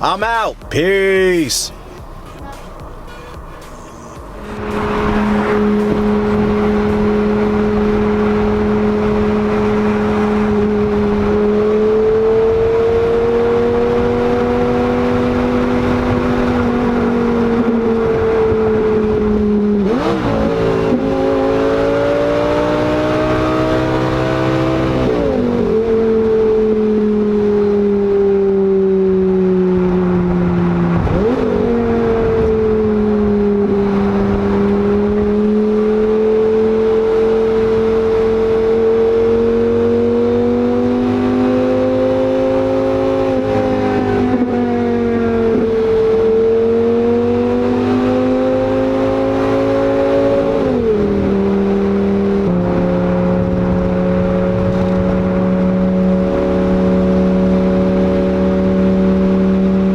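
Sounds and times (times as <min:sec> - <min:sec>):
sports car engine with gear changes: 0:01.7 - 0:59.9.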